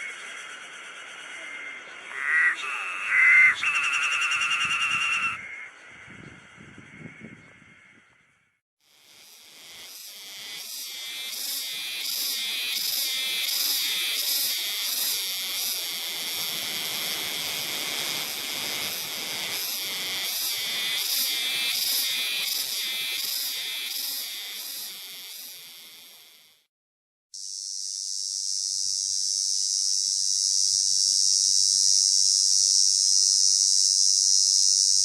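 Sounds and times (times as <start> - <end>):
cicada buzzing: 0.0 - 7.8, 8.8 - 26.7, 27.4 - 35.0.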